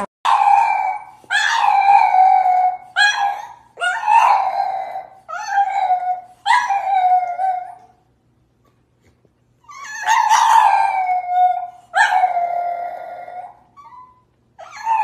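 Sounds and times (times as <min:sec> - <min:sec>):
dog howling: 0:00.3 - 0:08.0, 0:09.7 - 0:15.0.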